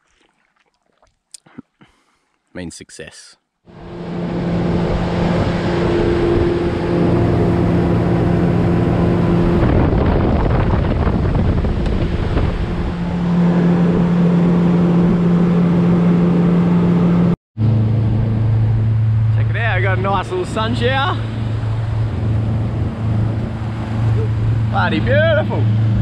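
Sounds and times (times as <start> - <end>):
outboard motor humming: 3.7 - 26.0
wind and water rushing: 3.7 - 26.0.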